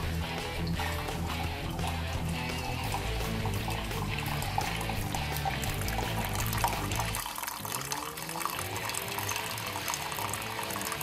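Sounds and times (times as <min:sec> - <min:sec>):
coffee brewer pump humming: 0:00.0 - 0:11.0
coffee dripping into cup: 0:00.6 - 0:11.0.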